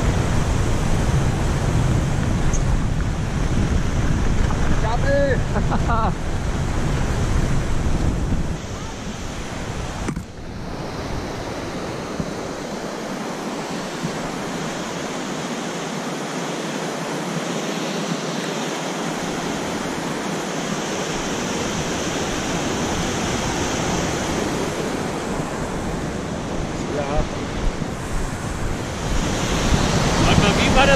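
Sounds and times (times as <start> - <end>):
wind noise on microphone: 0.0 - 15.5, 19.1 - 30.9.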